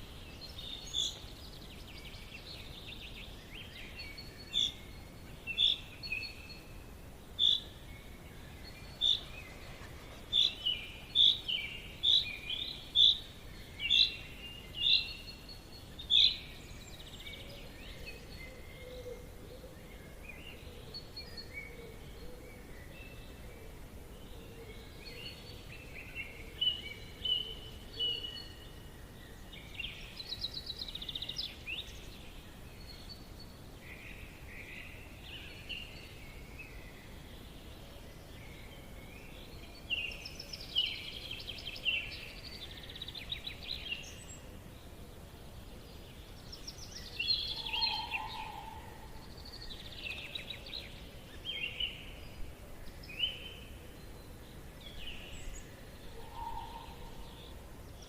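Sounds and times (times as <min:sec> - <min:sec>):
songbirds chirping: 0:00.0 - 0:58.0
steady background hiss: 0:00.0 - 0:58.0.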